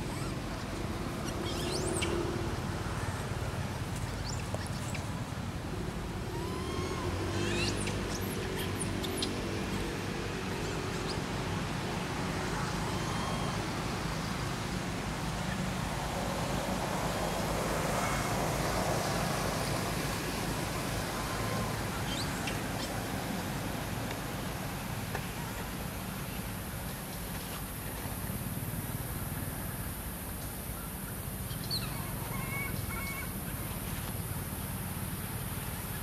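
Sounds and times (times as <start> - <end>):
distant road traffic: 0.0 - 36.0.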